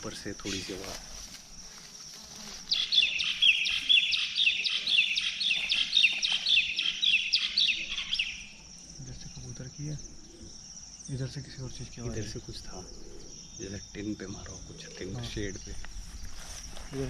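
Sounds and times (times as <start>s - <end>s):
bird chirping: 2.5s - 17.0s.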